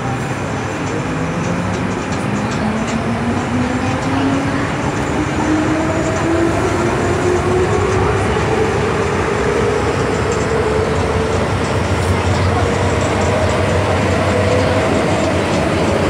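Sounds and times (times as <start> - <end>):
rumble of train wheels: 0.0 - 16.0
traction motors whining: 0.0 - 16.0.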